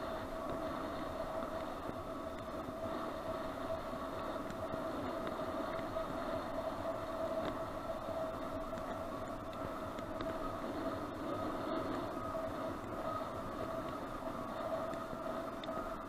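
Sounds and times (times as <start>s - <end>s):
constant hum: 0.0s - 16.0s
faint ticks: 0.0s - 16.0s.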